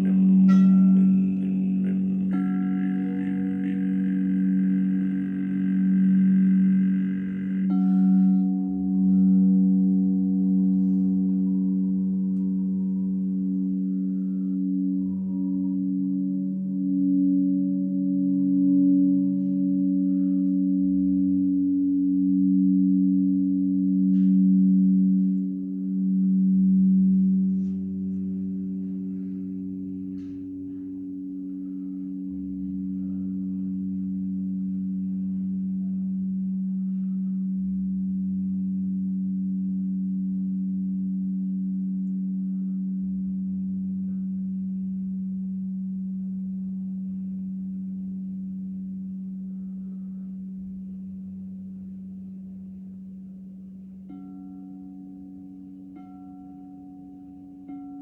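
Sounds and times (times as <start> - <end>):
crystal singing bowls humming: 0.0 - 58.0.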